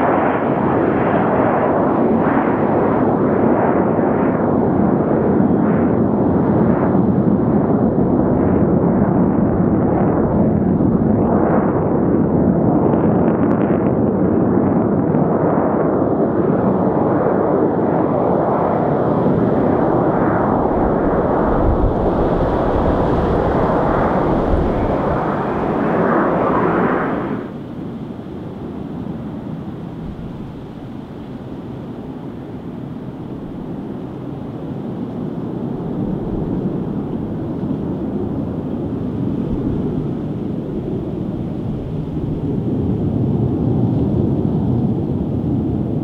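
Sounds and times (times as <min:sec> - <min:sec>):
jet aircraft roar overhead: 0:00.0 - 0:46.0.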